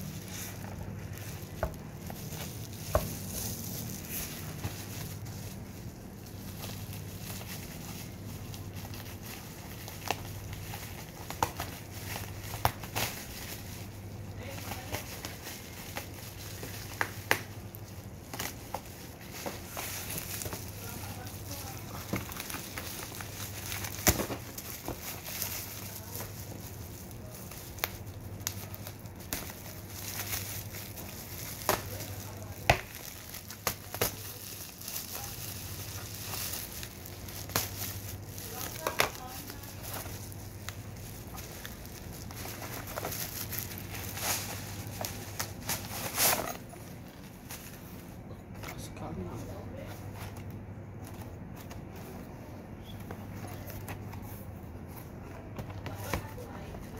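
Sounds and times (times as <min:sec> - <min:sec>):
bubble wrap rustling and crinkling: 0:00.0 - 0:56.9
steady low hum: 0:00.0 - 0:56.9.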